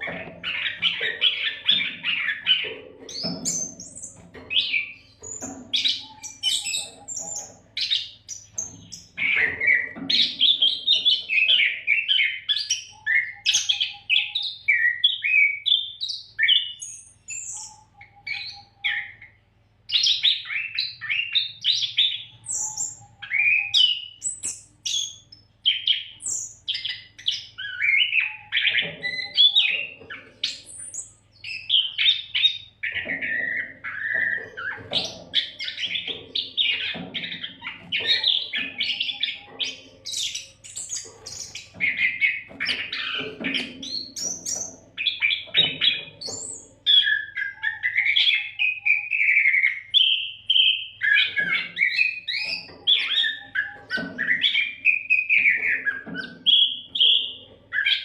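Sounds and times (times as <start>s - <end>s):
songbird singing whistles and trills: 0.0s - 58.0s.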